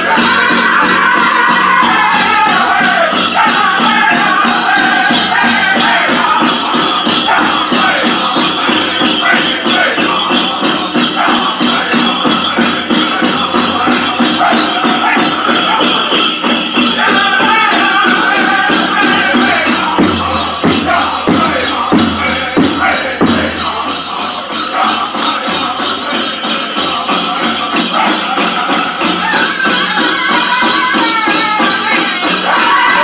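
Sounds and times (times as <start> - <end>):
group singing: 0.0 - 33.0
jingling bells: 0.0 - 33.0
large drum beating steady pulse: 0.0 - 33.0.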